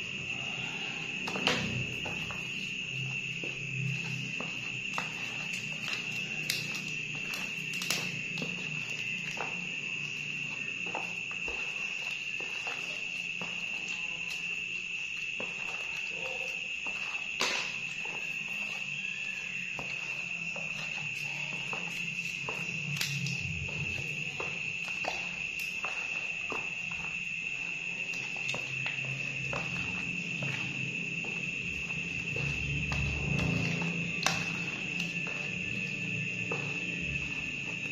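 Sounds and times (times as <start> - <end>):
insect trilling: 0.0 - 37.9.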